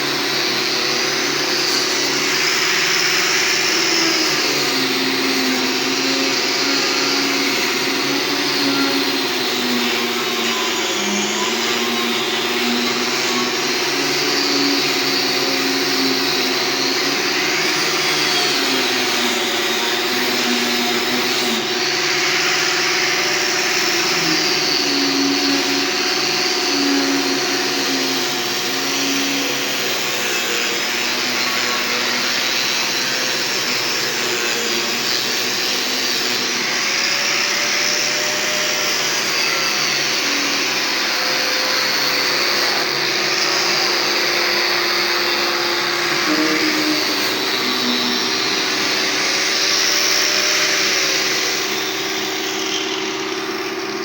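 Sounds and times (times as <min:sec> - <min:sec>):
electric power tool whining: 0:00.0 - 0:54.0.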